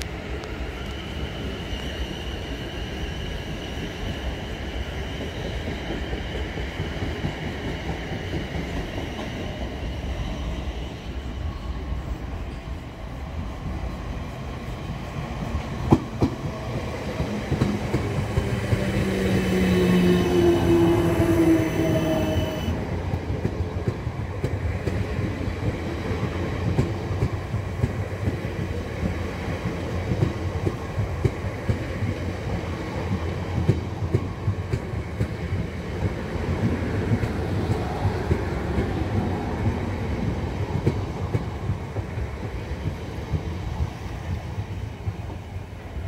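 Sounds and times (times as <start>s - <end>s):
train whine: 0.0s - 46.0s
train wheels clattering on rails: 1.6s - 10.1s, 14.8s - 46.0s.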